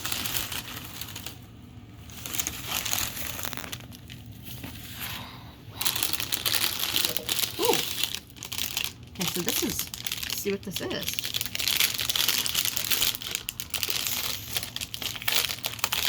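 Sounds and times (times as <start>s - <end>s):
wrapping crinkling: 0.0s - 5.1s, 5.8s - 16.0s.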